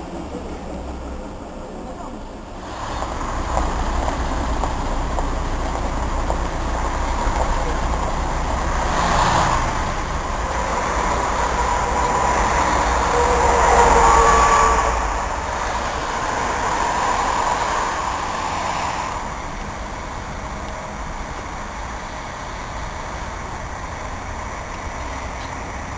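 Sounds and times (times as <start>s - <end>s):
bus diesel engine pulling away: 0.0s - 25.9s
engine whine: 0.0s - 25.9s.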